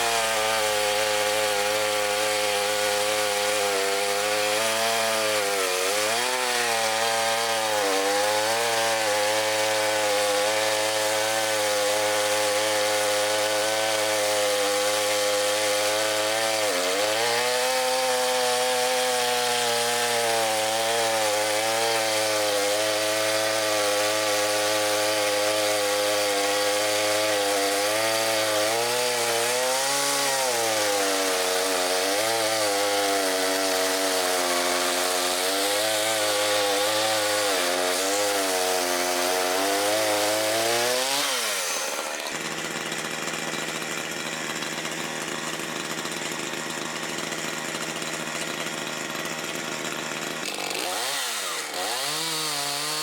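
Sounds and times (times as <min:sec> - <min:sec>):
chainsaw idling: 0:00.0 - 0:53.0
chainsaw running at high revs: 0:00.0 - 0:53.0.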